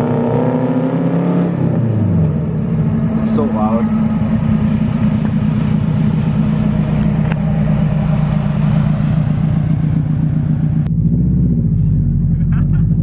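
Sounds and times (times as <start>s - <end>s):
car engine with loud exhaust: 0.0s - 13.0s.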